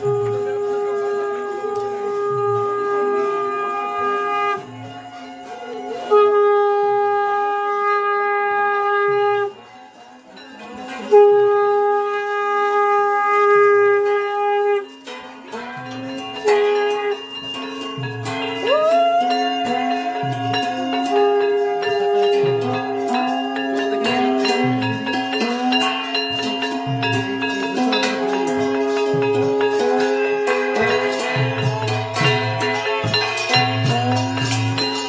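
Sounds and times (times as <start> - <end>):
conch shell blasts: 0.0 - 9.7, 10.8 - 35.0.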